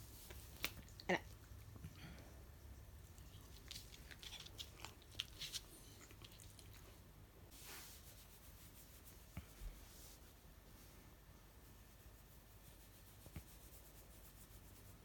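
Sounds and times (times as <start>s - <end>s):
soft rustle: 2.5s - 15.0s.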